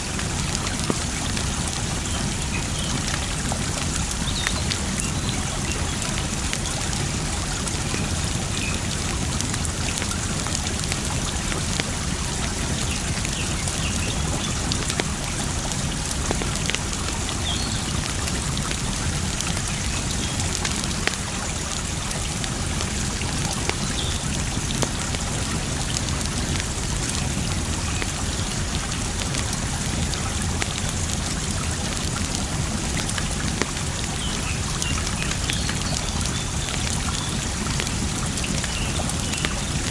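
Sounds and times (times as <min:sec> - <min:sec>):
campfire crackling and popping: 0:00.0 - 0:39.9
running water: 0:00.0 - 0:39.9.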